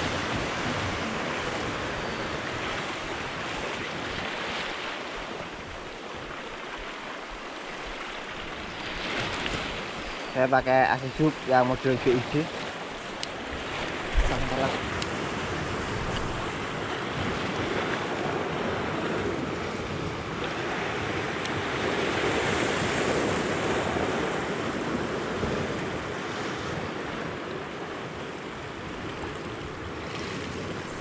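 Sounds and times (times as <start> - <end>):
waves breaking on rocks: 0.0 - 31.0.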